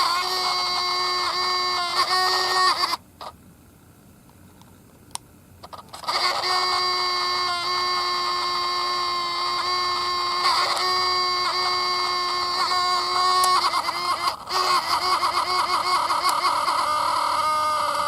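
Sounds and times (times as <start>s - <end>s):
camera buzzing whine: 0.0s - 3.4s, 5.6s - 18.0s.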